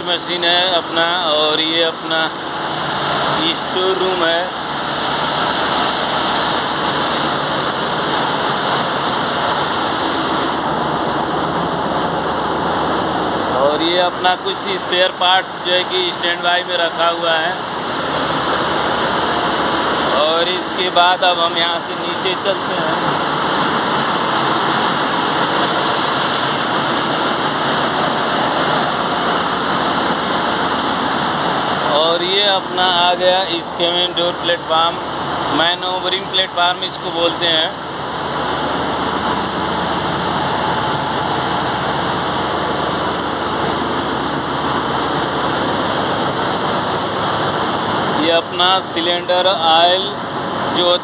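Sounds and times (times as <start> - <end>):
constant machinery hiss: 0.0 - 51.0
engine room machinery throbbing: 0.0 - 51.0.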